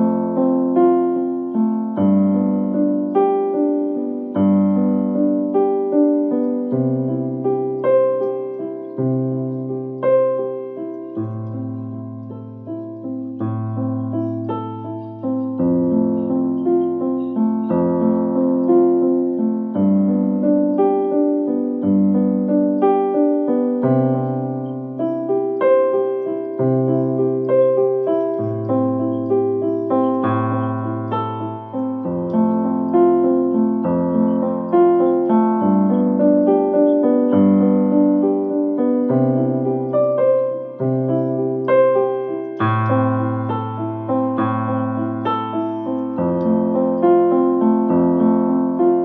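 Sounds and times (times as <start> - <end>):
piano chords: 0.0 - 49.0.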